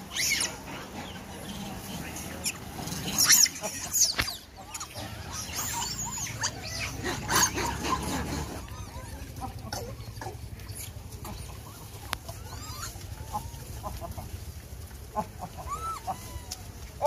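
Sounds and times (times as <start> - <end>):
chirping animal calls: 0.0 - 16.8.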